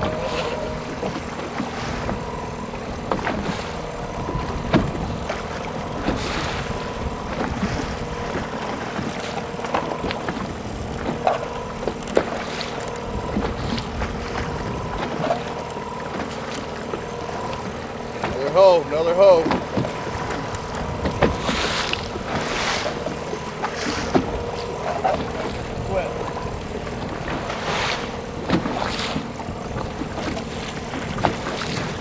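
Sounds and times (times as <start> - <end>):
outboard motor running: 0.0 - 32.0
water noise: 0.0 - 32.0
wind: 0.0 - 32.0.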